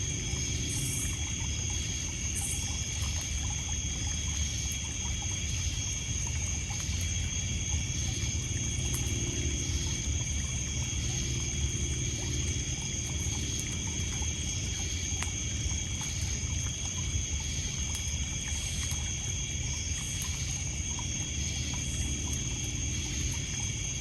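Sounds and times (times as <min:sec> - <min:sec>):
crickets and insects chorus: 0:00.0 - 0:24.0
low steady rumble: 0:00.0 - 0:24.0.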